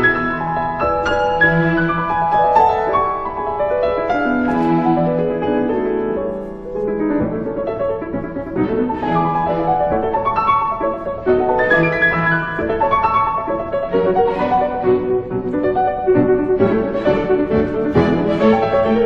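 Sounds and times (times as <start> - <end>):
grand piano playing: 0.0 - 19.0
orchestral strings holding notes: 0.0 - 19.0.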